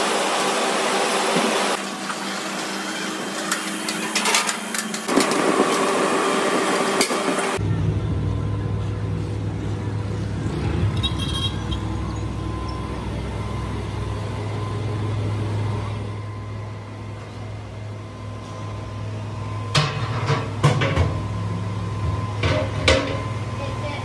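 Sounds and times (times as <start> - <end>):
low machine hum: 4.7 - 24.0.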